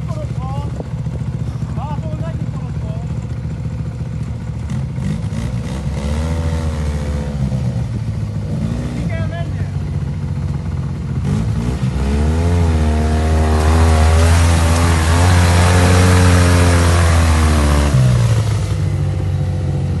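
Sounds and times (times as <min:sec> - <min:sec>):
buggy engine revving: 0:00.0 - 0:20.0.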